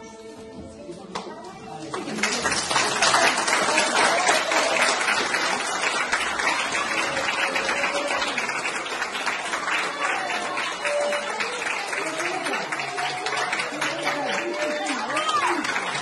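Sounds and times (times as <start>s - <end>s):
audience applause: 1.8s - 16.0s.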